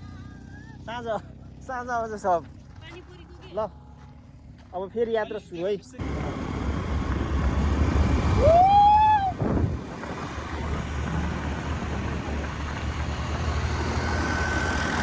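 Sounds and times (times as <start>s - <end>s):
scooter engine running: 0.0s - 4.7s, 6.0s - 15.0s.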